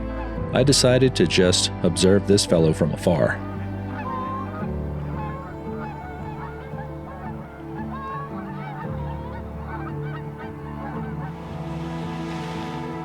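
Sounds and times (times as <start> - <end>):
background music: 0.0 - 13.0
geese honking: 0.1 - 13.0.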